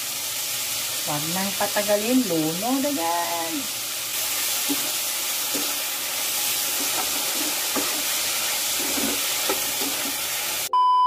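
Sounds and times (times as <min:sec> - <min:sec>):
food sizzling in oil: 0:00.0 - 0:10.7.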